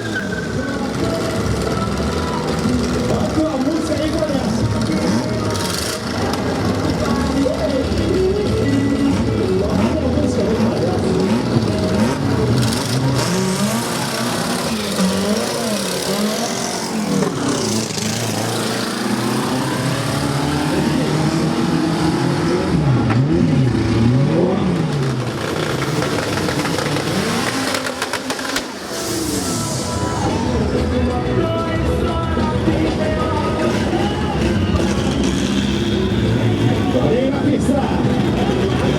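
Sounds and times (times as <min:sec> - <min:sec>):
drag race car engines revving: 0:00.0 - 0:38.9.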